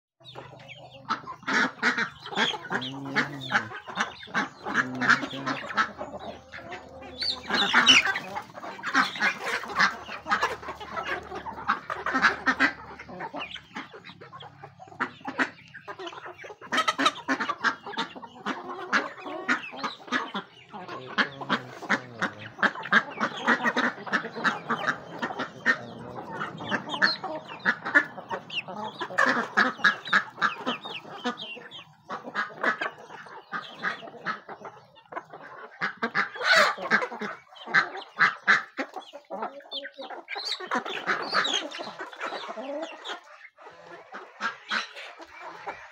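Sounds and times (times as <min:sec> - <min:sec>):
beaks pecking at ground: 0:00.2 - 0:45.9
chickens clucking: 0:00.2 - 0:45.9.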